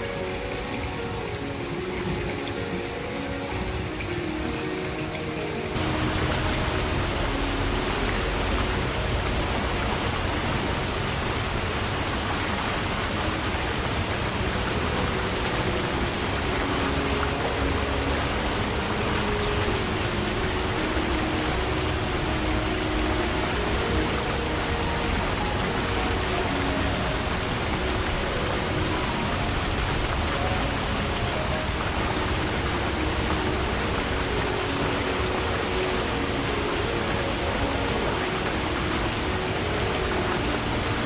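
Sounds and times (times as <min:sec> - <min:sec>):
stream running water: 0:00.0 - 0:41.0.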